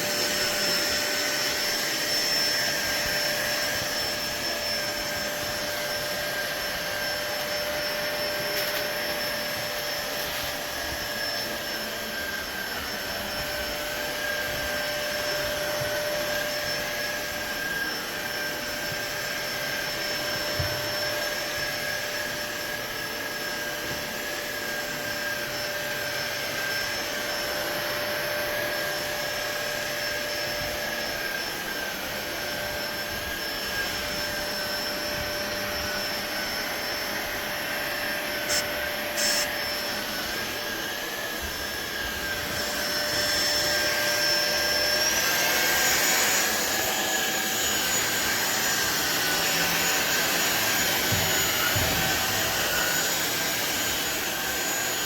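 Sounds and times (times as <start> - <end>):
stick vacuum cleaner running: 0.0 - 55.0.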